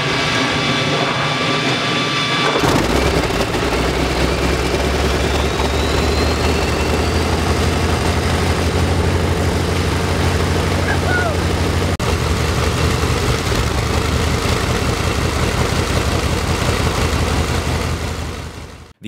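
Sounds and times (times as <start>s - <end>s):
radial engine running: 0.0s - 19.0s
starter whine: 0.0s - 19.0s.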